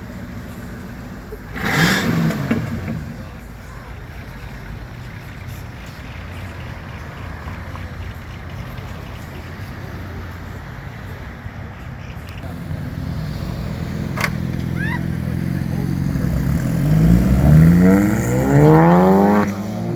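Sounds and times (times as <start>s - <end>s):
car engine rumbling: 0.0s - 19.9s.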